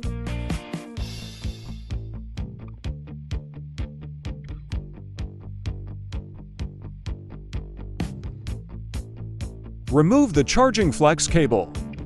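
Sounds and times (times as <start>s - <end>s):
funky music with bass guitar: 0.0s - 12.0s.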